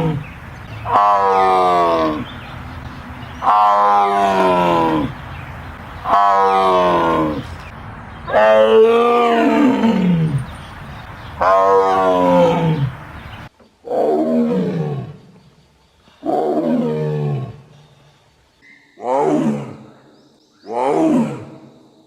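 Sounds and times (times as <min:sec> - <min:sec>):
tiger roaring: 0:00.0 - 0:15.3, 0:16.2 - 0:17.9, 0:19.0 - 0:20.0, 0:20.7 - 0:21.7
steady background hiss: 0:00.0 - 0:20.7.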